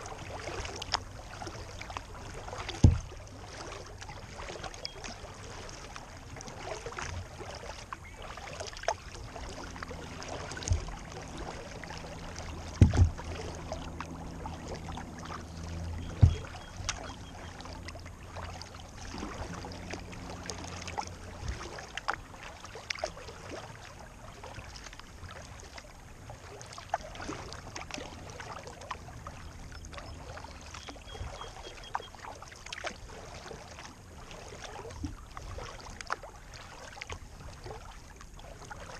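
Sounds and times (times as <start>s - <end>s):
low steady hum: 0.0s - 38.9s
small waves lapping against kayak hull: 0.0s - 38.9s.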